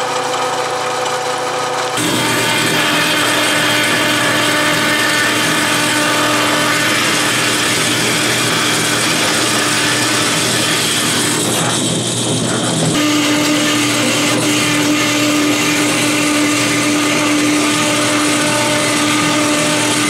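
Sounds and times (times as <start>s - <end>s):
milling machine cutting metal: 0.0s - 20.0s
bandsaw cutting metal: 1.9s - 20.0s.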